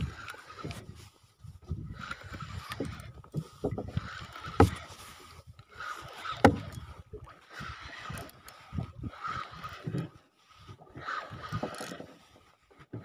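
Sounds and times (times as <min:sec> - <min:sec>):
spinning reel reeling: 0:00.0 - 0:01.1, 0:01.7 - 0:12.5.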